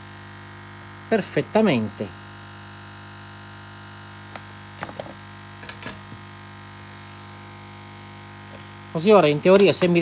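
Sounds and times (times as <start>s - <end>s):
hot-air station humming: 0.0s - 10.0s.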